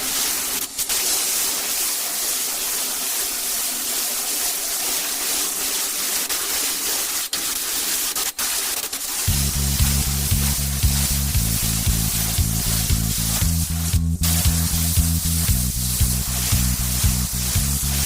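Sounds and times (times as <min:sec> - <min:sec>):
hissing spray: 0:00.0 - 0:18.0.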